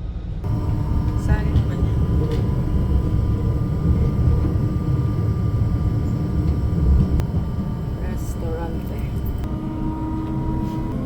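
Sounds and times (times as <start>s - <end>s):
train rumbling along track: 0.0s - 11.0s
faint steady tone: 0.4s - 11.0s.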